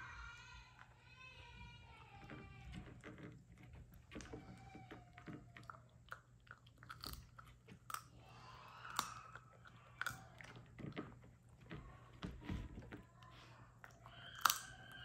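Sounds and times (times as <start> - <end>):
puppy crunching chew treat: 2.2 - 15.0.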